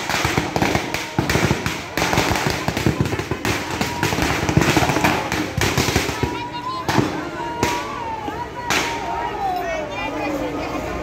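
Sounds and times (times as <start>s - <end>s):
firecrackers cracking: 0.0s - 9.2s.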